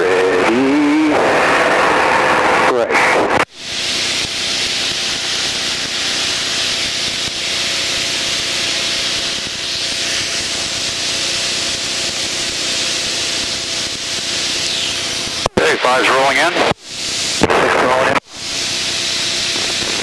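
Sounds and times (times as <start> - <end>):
faint aircraft engine drone: 0.0 - 20.0
rushing airflow hiss: 3.6 - 20.0.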